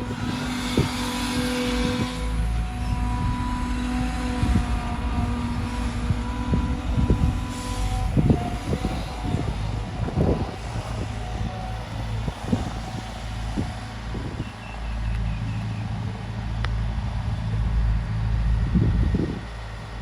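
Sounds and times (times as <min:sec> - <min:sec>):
excavator diesel engine rumble: 0:00.0 - 0:20.0.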